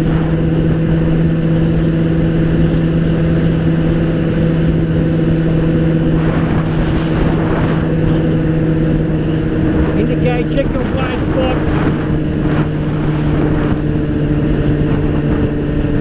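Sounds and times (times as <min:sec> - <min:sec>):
motorcycle engine running: 0:00.0 - 0:16.0
road noise: 0:00.0 - 0:16.0
wind noise: 0:00.0 - 0:16.0.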